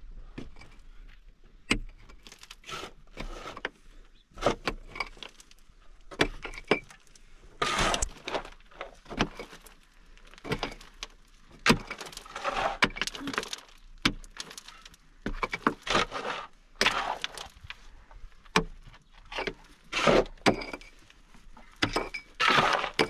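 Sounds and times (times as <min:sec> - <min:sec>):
rattle of loosened soil and pebbles: 0:00.2 - 0:23.0.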